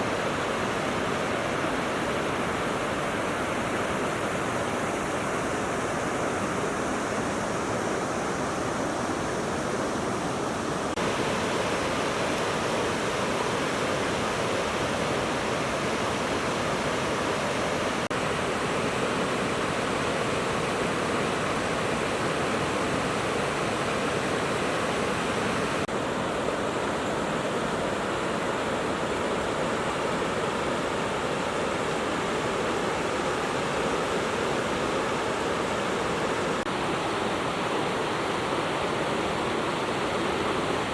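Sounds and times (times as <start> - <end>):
fast-flowing river rushing: 0.0 - 40.9.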